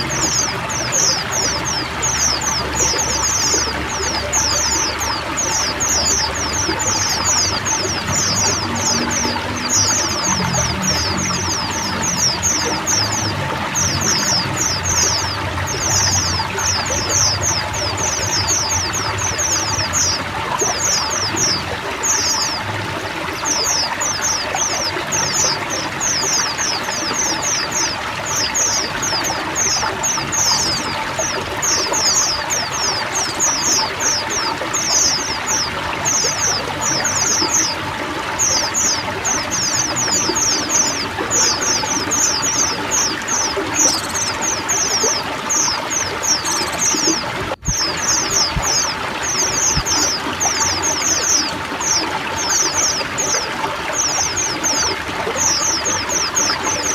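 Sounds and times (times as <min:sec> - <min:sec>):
flock of birds singing: 0:00.0 - 0:56.9
running water: 0:00.0 - 0:56.9.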